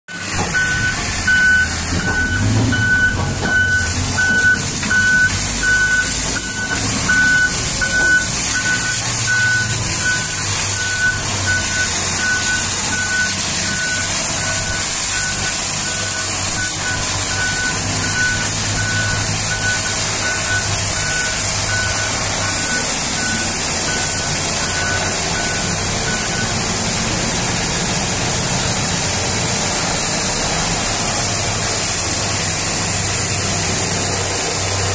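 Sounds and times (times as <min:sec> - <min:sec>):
reversing alarm beeping: 0:00.1 - 0:28.8
diesel engine hum: 0:00.1 - 0:34.9
pressure washer hiss: 0:00.1 - 0:34.9.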